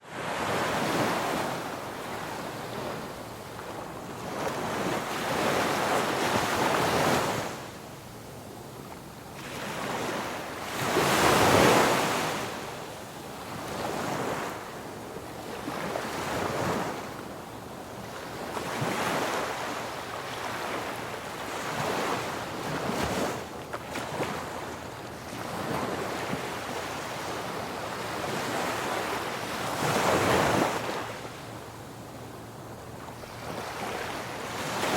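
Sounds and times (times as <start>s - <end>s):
ocean waves breaking on beach: 0.0s - 7.8s, 9.3s - 34.9s.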